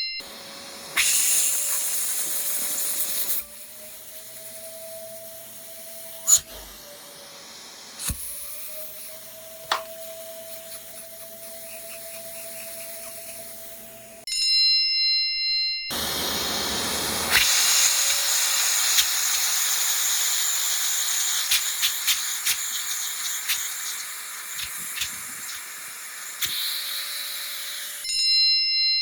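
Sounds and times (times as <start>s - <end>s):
vacuum cleaner suction hiss: 0.2s - 14.3s, 15.9s - 28.1s.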